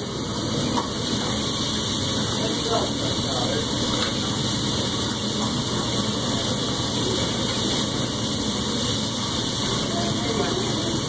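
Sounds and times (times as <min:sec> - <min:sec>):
meat cooking on griddle: 0:00.0 - 0:11.0.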